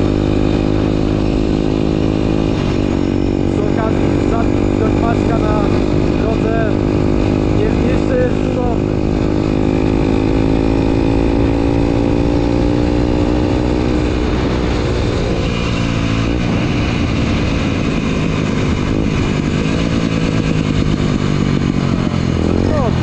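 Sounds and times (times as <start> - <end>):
motorcycle engine running: 0.0 - 23.0
wind noise: 0.0 - 23.0.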